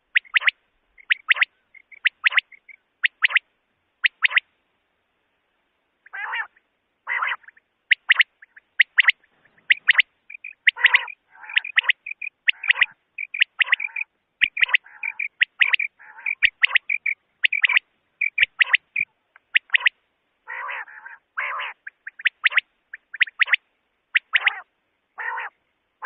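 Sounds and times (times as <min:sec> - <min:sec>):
quail calling: 0:00.0 - 0:03.4, 0:04.0 - 0:04.5, 0:06.0 - 0:25.6.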